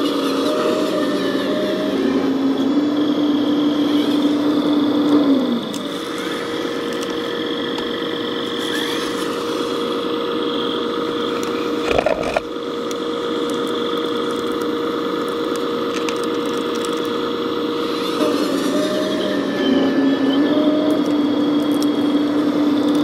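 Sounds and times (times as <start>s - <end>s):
model excavator motor whine: 0.0s - 23.0s.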